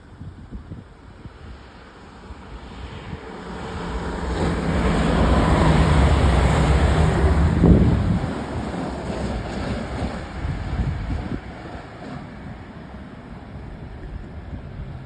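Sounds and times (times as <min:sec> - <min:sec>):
wind buffeting microphone: 0:00.0 - 0:15.0
train passing rumble: 0:00.3 - 0:15.0.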